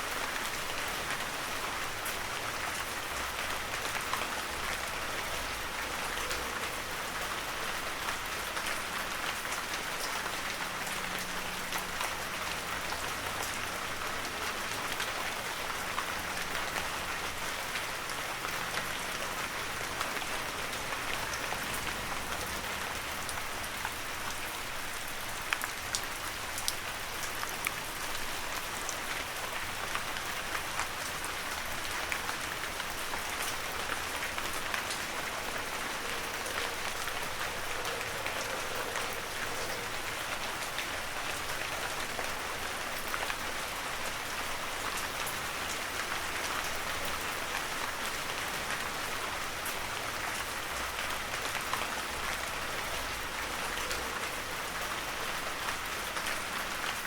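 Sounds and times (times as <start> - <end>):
heavy rain falling: 0.0 - 57.0
raindrops ticking on surfaces: 0.0 - 57.0.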